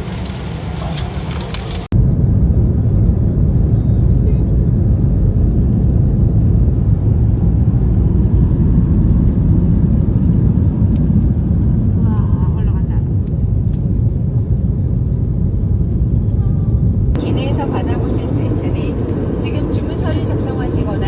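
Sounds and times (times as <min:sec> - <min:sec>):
vehicle interior rumble: 0:00.0 - 0:21.0.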